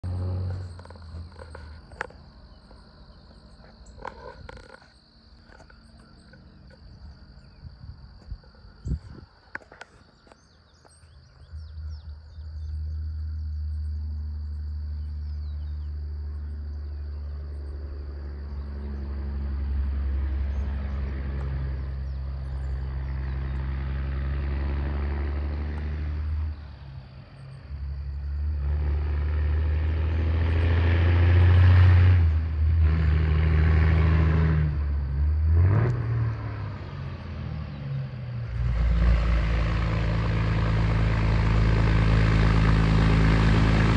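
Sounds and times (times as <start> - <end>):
insect trill: 0.0 - 43.9
vehicle engine drone: 0.0 - 43.9.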